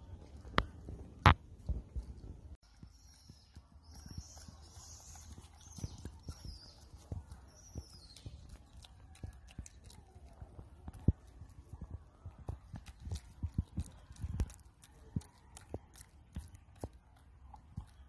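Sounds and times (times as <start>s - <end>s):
infant monkey suckling wet clicks: 0.3s - 18.0s.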